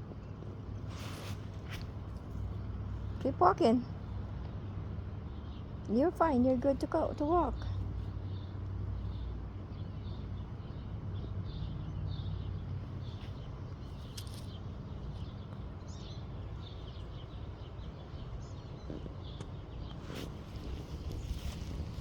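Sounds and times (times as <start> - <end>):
low outdoor rumble: 0.0 - 22.0
small birds chirping: 0.1 - 22.0.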